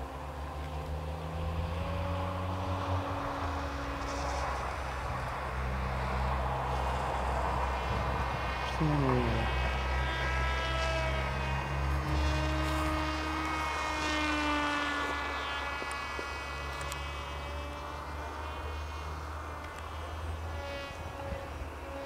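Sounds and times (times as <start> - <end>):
model plane propeller buzzing: 0.0 - 22.0.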